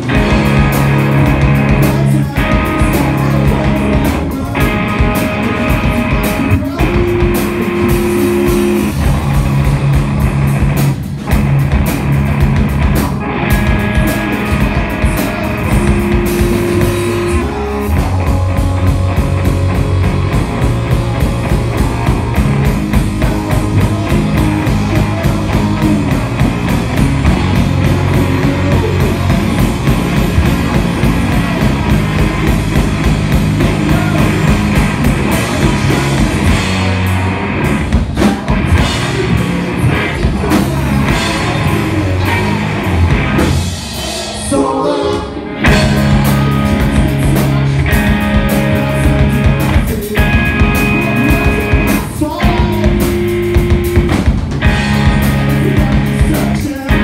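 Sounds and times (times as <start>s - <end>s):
rock band playing loudly: 0.0s - 57.0s.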